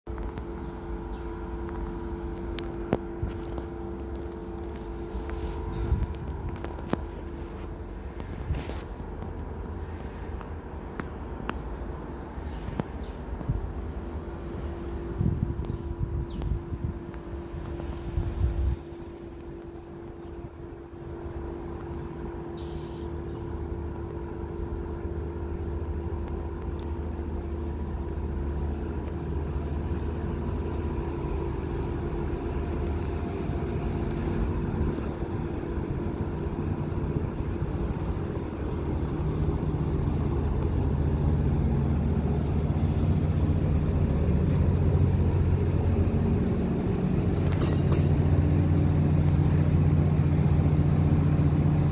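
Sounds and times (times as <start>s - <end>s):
train running with low drone: 0.1s - 51.9s.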